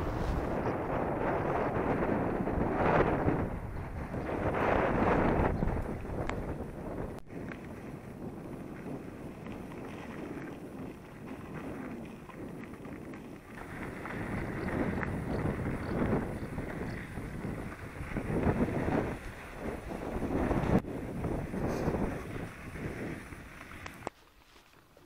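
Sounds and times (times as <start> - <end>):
wind buffeting microphone: 0.0 - 24.2.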